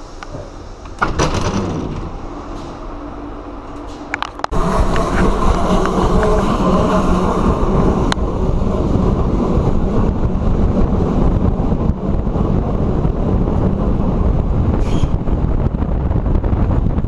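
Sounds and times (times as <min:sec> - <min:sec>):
train running gear rumble: 0:00.0 - 0:17.0
wind buffeting microphone: 0:01.3 - 0:17.0.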